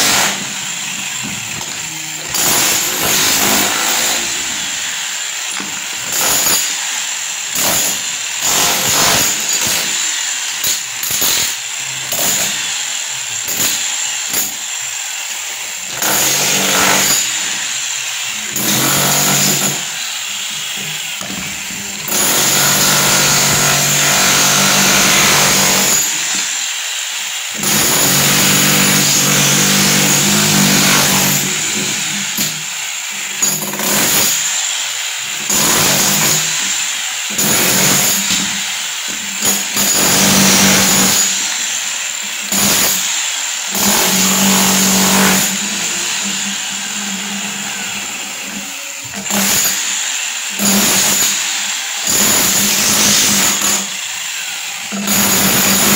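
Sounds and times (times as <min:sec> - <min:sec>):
power tool grinding: 0:00.0 - 0:55.9.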